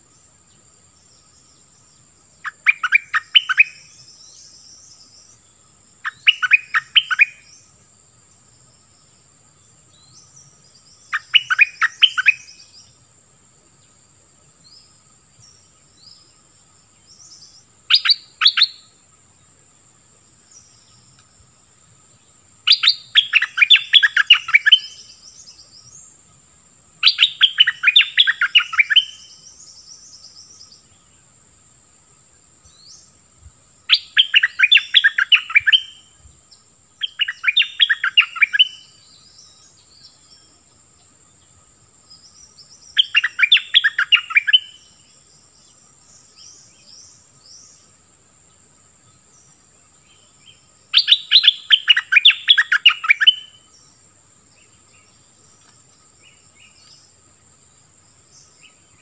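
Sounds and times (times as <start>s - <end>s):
faint high bird chirps: 0.0s - 13.0s, 13.7s - 19.5s, 22.1s - 26.2s, 27.0s - 31.3s, 33.9s - 47.9s, 48.6s - 57.5s.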